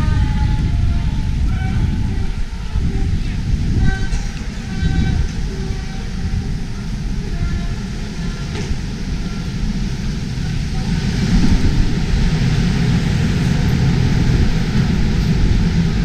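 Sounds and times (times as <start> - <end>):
low rumbling city street noise: 0.0 - 16.0.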